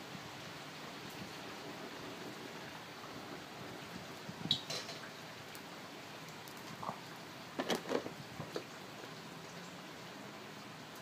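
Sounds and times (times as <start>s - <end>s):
oil ticking and crackling: 0.0s - 11.0s.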